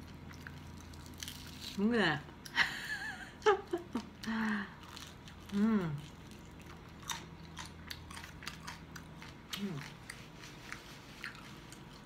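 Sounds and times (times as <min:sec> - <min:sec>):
crunchy chewing: 0:00.0 - 0:01.8, 0:04.0 - 0:12.0.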